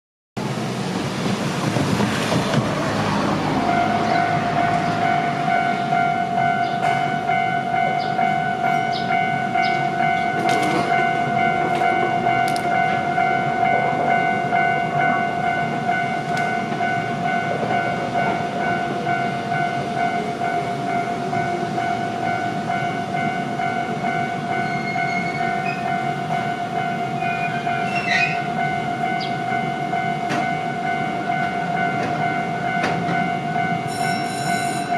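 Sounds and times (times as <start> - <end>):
level-crossing warning bell: 2.8 - 34.9.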